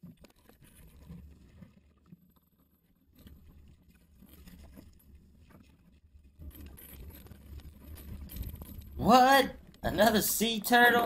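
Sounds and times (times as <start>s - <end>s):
water sloshing and splashing: 0.0s - 9.0s.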